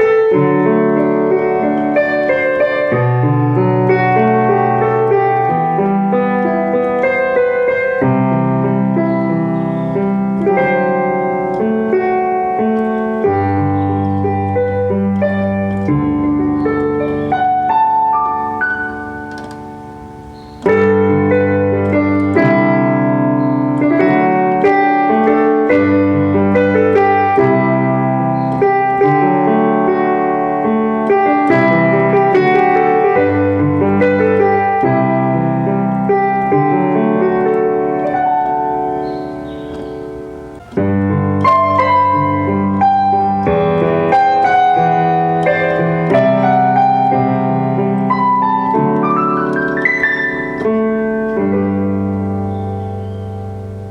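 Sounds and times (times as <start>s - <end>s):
piano music: 0.0s - 53.9s.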